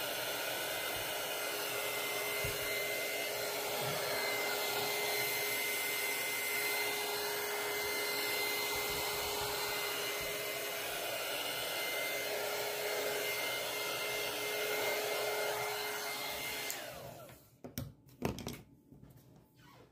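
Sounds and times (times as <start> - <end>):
heat gun blowing with whine: 0.0 - 17.4.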